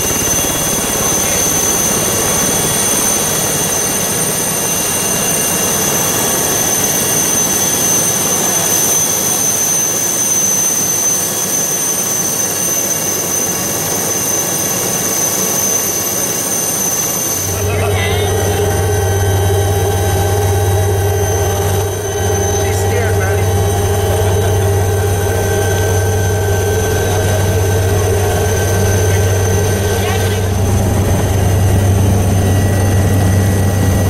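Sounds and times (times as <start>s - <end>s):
helicopter turbine whine: 0.0s - 34.0s.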